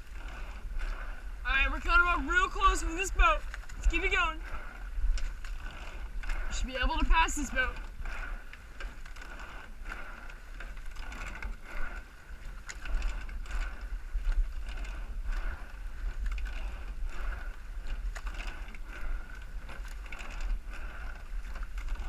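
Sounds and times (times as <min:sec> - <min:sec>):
oars clunking in oarlocks: 0:00.0 - 0:22.0
steady low rumble: 0:00.0 - 0:22.0
water rushing along hull: 0:00.0 - 0:22.0.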